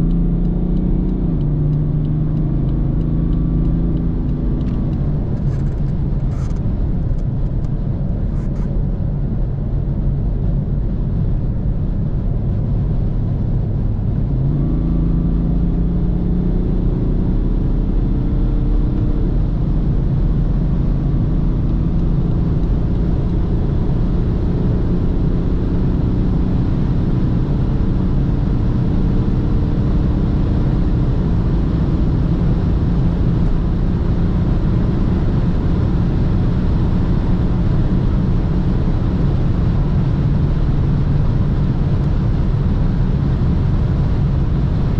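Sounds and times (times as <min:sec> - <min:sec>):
road and wind noise: 0:00.0 - 0:44.9.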